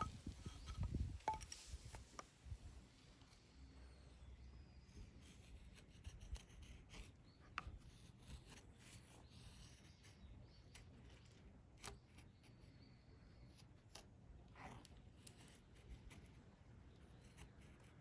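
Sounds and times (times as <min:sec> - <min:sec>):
faint scraping and rubbing: 0:00.0 - 0:18.0.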